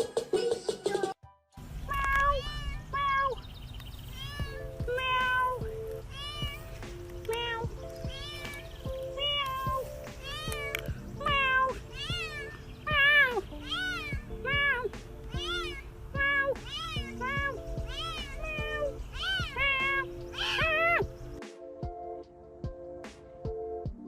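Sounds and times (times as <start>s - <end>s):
background music: 0.0s - 24.0s
cat meowing: 1.8s - 21.4s.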